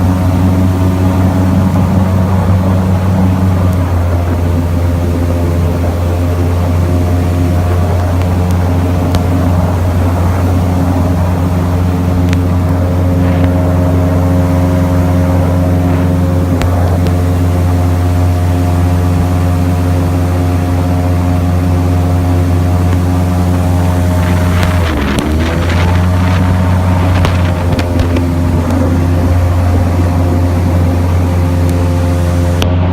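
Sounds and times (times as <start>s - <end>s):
airboat engine and propeller drone: 0.0s - 32.9s.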